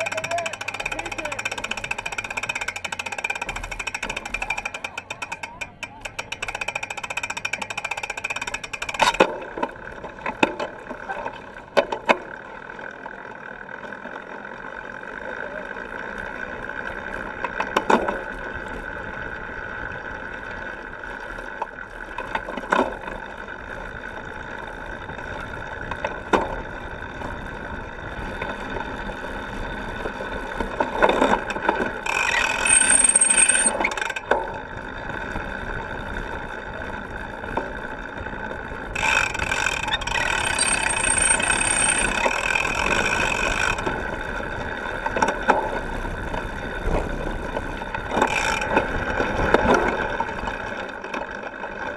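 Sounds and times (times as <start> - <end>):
bike tyres rattling on dirt: 0.0 - 51.9.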